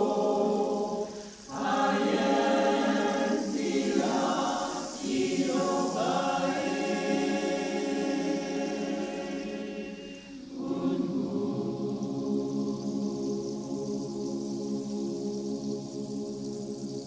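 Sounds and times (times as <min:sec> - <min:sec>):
choir singing a chant: 0:00.0 - 0:16.8.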